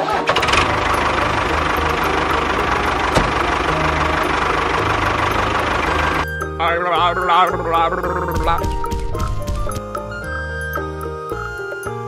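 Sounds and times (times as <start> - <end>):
tractor engine running: 0.0 - 9.9.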